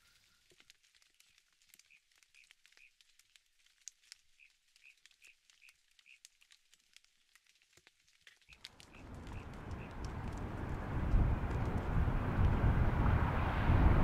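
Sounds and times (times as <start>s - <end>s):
faint ticks and crackles: 0.0s - 12.6s.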